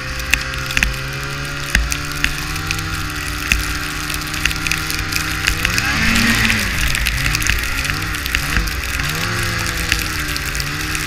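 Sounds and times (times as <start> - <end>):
sharp ticks and rattles: 0.0 - 11.0
snowmobile engine running: 0.0 - 11.0.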